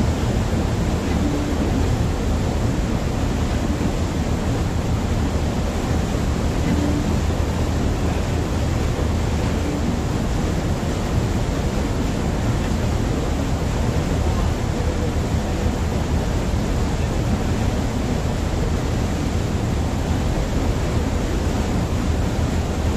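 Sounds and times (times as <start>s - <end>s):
ship engine humming: 0.0s - 22.9s
wake water rushing along hull: 0.0s - 22.9s.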